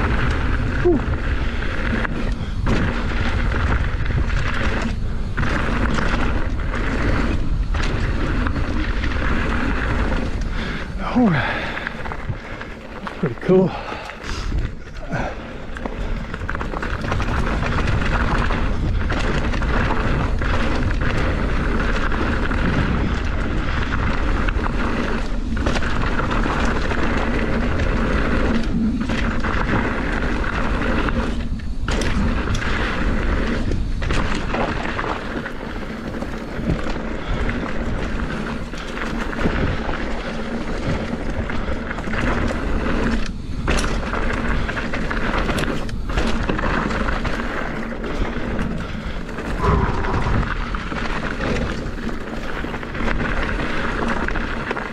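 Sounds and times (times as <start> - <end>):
tyres rolling over dirt: 0.0 - 54.9
wind rushing over microphone: 0.0 - 54.9.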